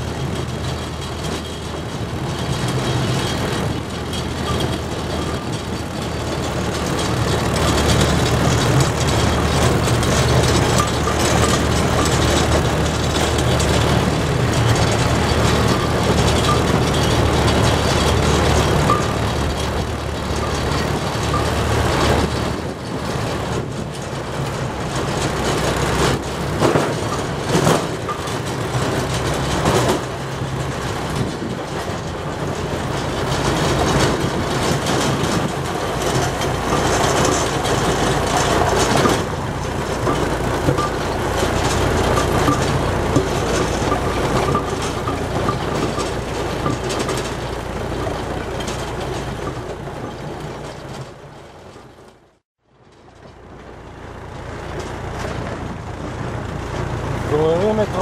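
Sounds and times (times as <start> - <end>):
road roller drums rumbling: 0.0 - 58.0
tractor engine running: 0.0 - 58.0.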